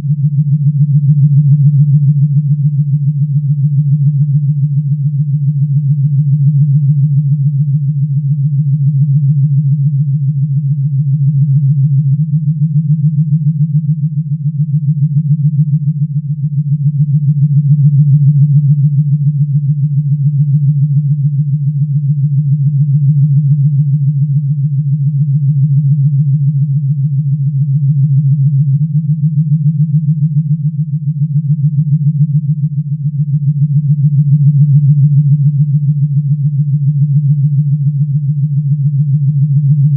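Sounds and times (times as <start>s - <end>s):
electronic hum with fluttering pulse: 0.0s - 39.9s.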